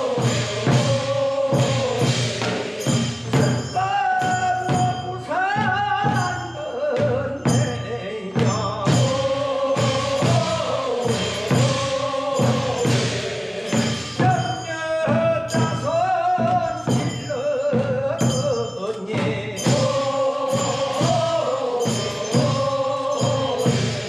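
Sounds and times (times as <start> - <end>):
percussive strikes: 0.0 - 7.8, 8.4 - 24.0
men singing slow chant: 0.0 - 24.0.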